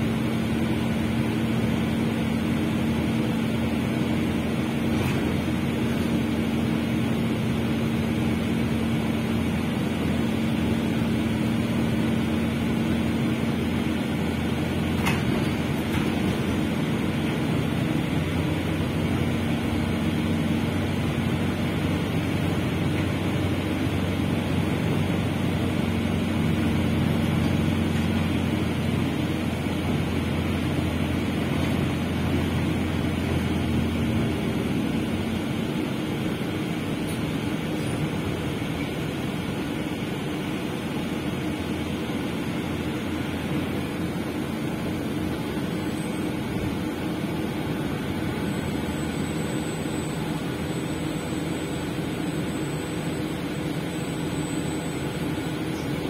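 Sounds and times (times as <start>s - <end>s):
bus engine hum: 0.0s - 56.0s
road and rolling noise: 0.0s - 56.0s.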